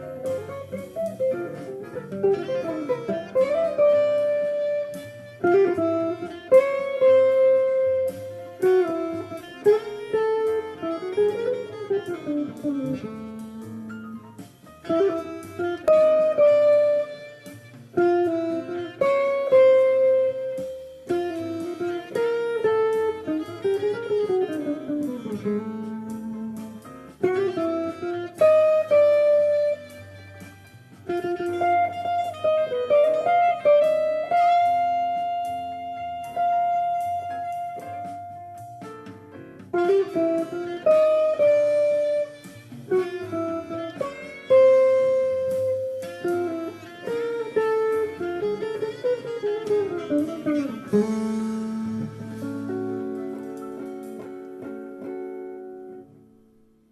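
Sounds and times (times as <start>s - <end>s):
jazz guitar playing: 0.0s - 56.9s.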